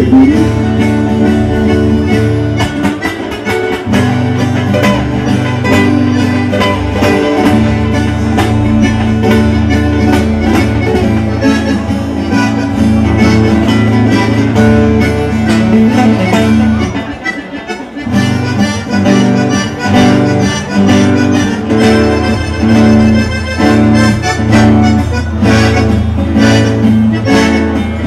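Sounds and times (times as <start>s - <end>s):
acoustic guitars: 0.0s - 28.0s
bass: 0.0s - 28.0s
reedy lead melody: 0.0s - 28.0s.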